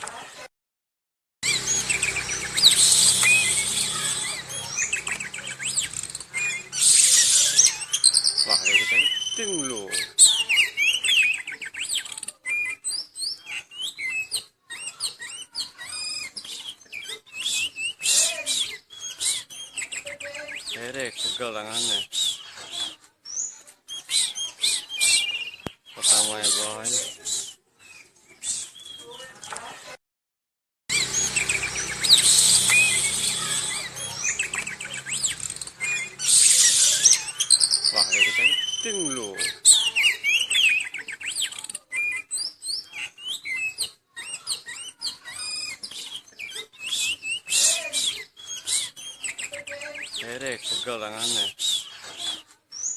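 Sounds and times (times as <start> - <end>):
songbird singing: 1.4 - 29.4, 30.9 - 52.9.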